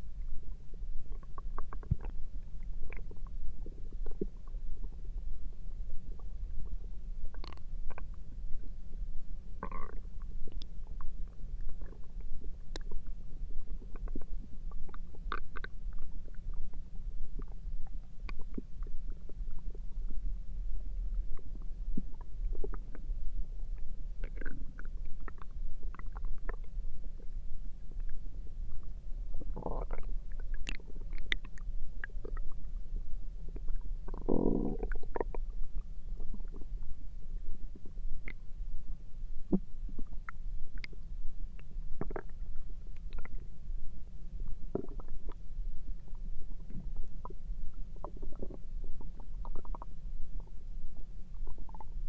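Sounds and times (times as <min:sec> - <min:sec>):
stomach rumbling and gurgling: 0:00.0 - 0:52.0.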